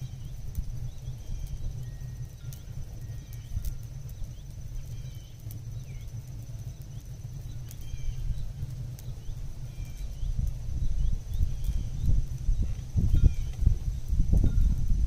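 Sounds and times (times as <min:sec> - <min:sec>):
fire pops and snaps: 0:00.0 - 0:15.0
low fire rumble: 0:00.0 - 0:15.0
wood fire crackling: 0:00.0 - 0:15.0.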